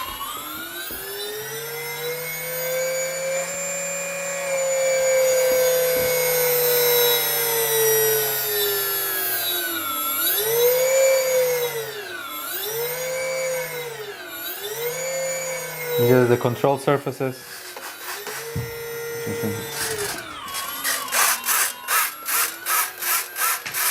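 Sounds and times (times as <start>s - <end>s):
electric motor whine: 0.0s - 23.9s.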